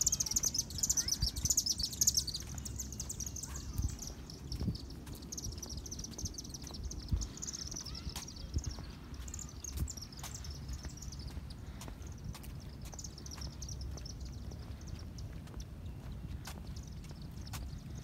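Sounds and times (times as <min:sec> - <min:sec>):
birds chirping: 0:00.0 - 0:18.0
footsteps on pavement: 0:00.0 - 0:18.0.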